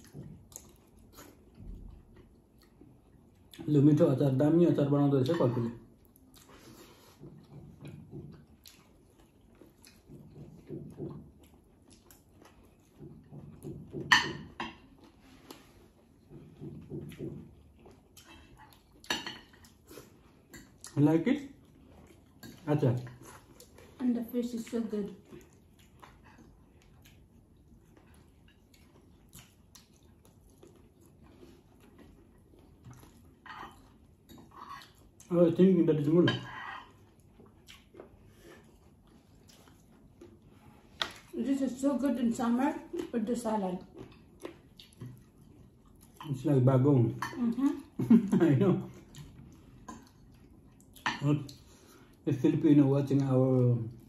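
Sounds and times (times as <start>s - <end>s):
chewing and mouth noises: 0.0s - 3.8s, 5.3s - 52.3s.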